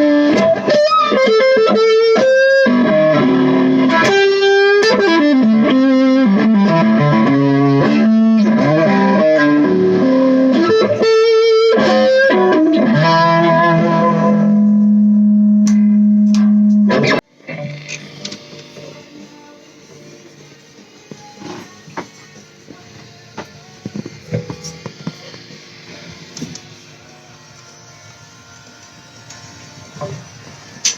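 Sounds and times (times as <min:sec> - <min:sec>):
electric guitar playing: 0:00.0 - 0:30.9.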